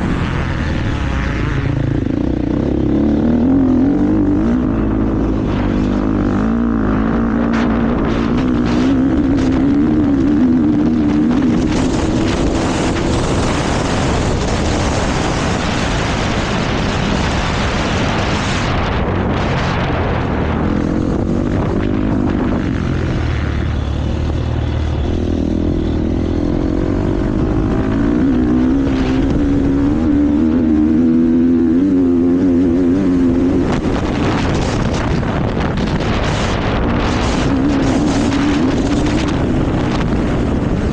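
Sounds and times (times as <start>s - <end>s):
motocross bike engine revving: 0.0s - 40.9s
rushing noise: 0.0s - 40.9s.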